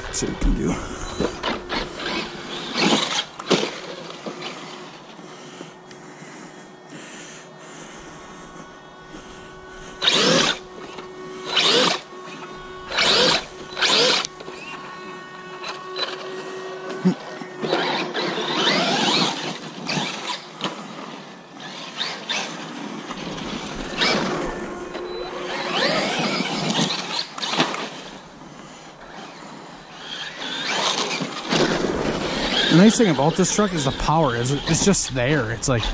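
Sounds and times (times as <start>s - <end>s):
tyres spinning on dirt: 0.0s - 5.7s, 9.0s - 16.3s, 16.9s - 20.8s, 21.6s - 35.9s
electric motor revving: 0.0s - 35.9s.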